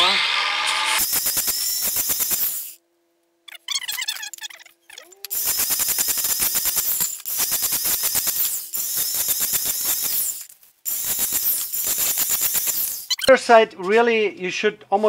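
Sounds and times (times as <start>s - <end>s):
angle grinder grinding metal: 0.0s - 2.8s, 3.6s - 13.3s.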